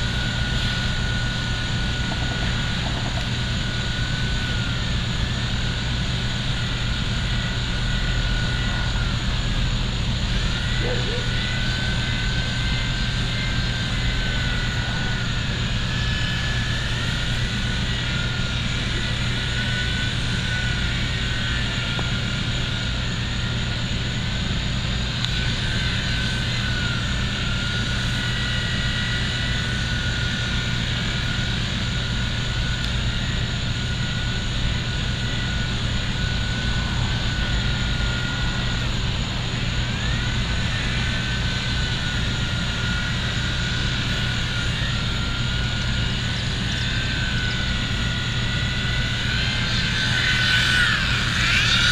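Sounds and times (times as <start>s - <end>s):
toy helicopter motors whining: 0.0s - 51.9s.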